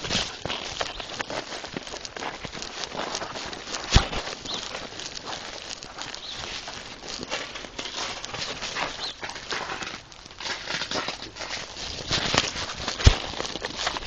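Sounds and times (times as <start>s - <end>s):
crackling and rustling: 0.0s - 14.0s.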